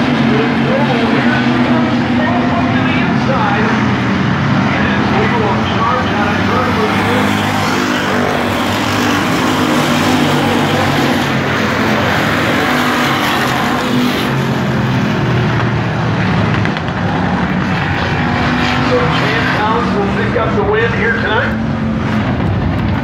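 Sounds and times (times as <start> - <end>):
race car engines droning: 0.0 - 23.0.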